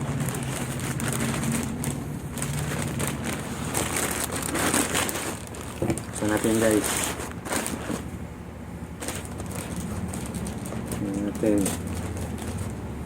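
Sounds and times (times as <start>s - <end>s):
low steady hum: 0.0s - 13.0s
packaging crinkling and rustling: 0.0s - 13.0s.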